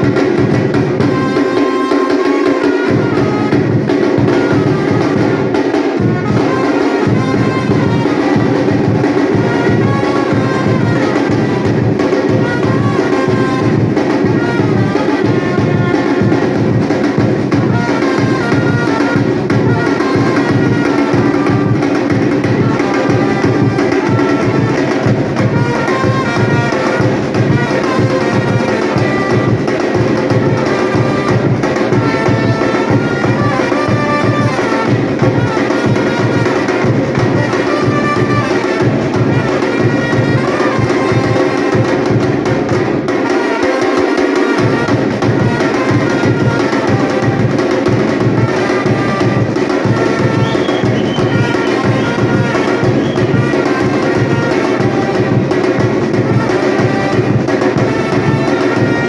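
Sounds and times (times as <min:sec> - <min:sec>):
percussion ensemble drumming: 0:00.0 - 0:59.0.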